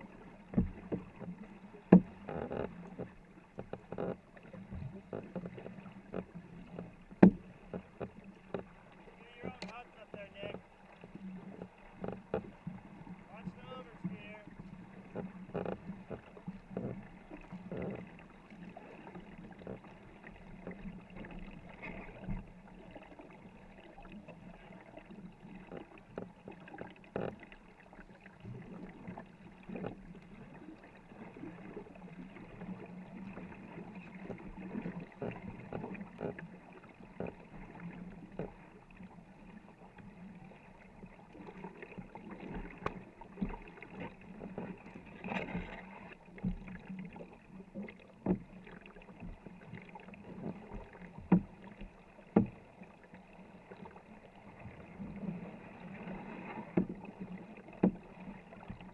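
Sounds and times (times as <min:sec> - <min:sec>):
paddles splashing in water: 0:00.0 - 0:58.9
water rushing along hull: 0:00.0 - 0:58.9.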